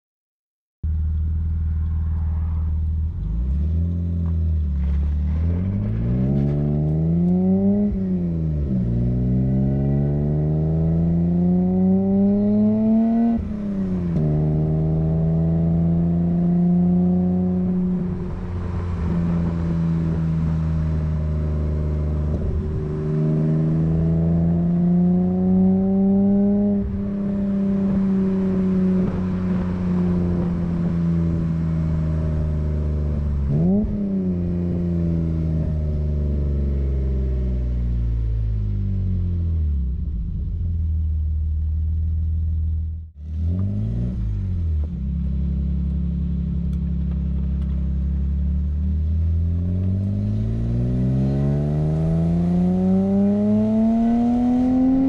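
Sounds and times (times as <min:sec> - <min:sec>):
car engine accelerating: 0:00.8 - 0:55.0.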